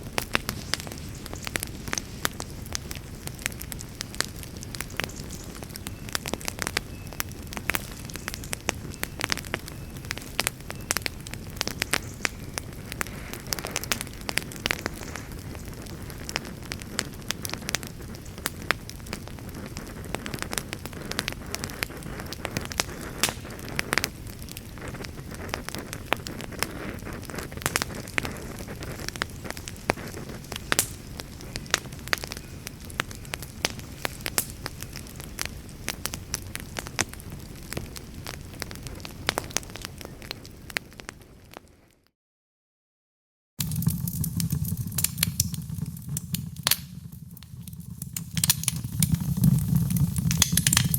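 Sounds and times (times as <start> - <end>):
wood fire crackling: 0.0 - 42.0, 43.6 - 50.9.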